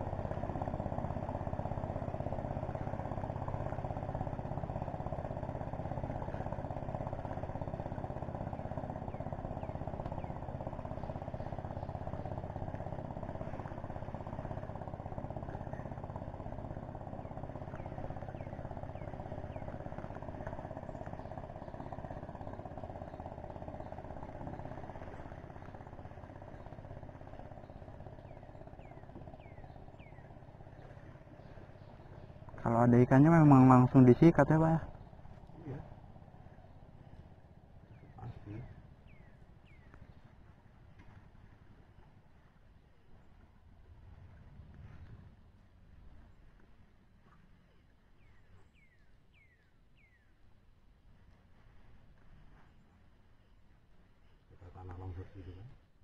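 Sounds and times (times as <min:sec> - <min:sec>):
small boat motor droning: 0:00.0 - 0:56.0.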